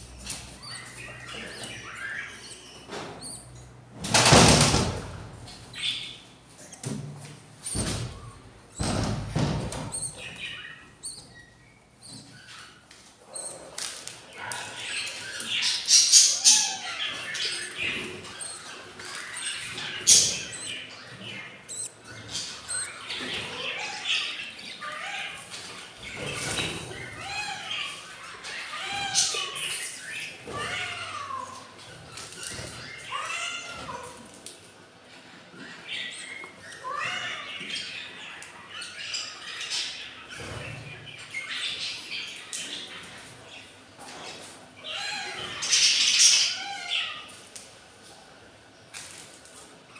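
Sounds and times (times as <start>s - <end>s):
budgies squawking and chattering: 0.0s - 3.6s, 7.7s - 34.3s, 35.2s - 47.4s.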